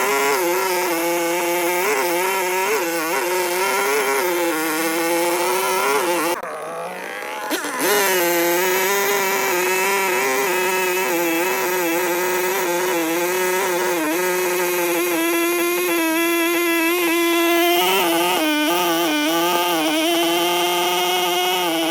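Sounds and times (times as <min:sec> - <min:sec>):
chainsaw engine revving: 0:00.0 - 0:21.9.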